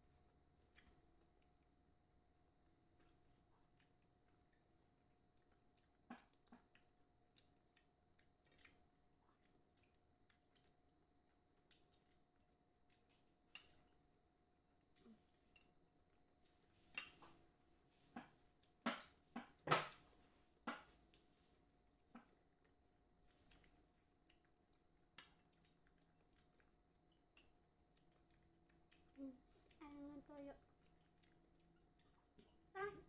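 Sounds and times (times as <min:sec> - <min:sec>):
soft chewing clicks and smacks: 0:00.0 - 0:33.0.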